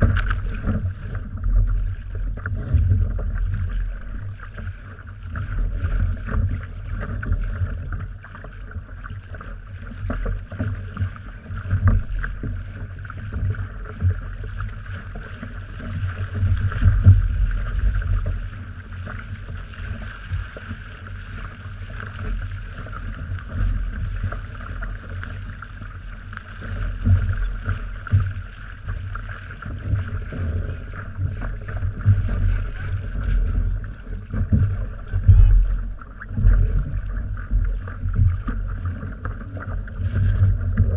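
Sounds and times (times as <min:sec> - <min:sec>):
water noise from boat: 0:00.0 - 0:40.9.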